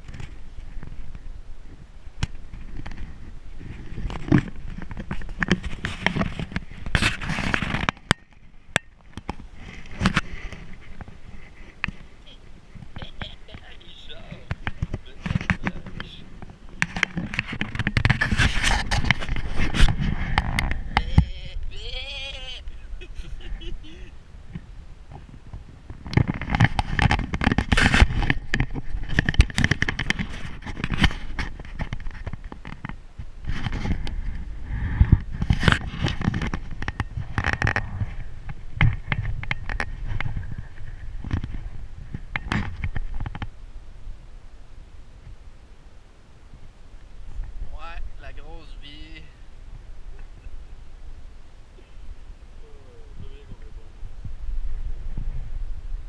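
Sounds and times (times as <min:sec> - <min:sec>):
hammock fabric rustling: 0:00.0 - 0:53.1.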